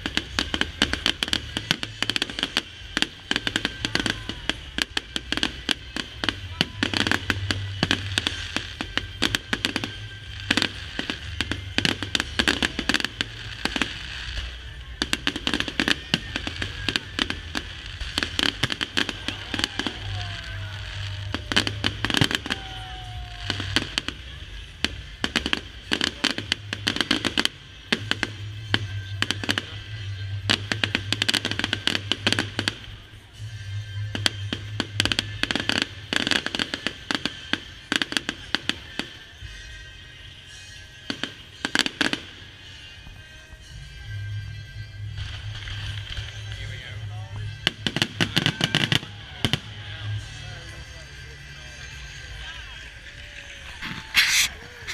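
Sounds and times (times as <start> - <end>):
fireworks bangs and crackles: 0.0 - 54.9
music playing: 0.0 - 54.9.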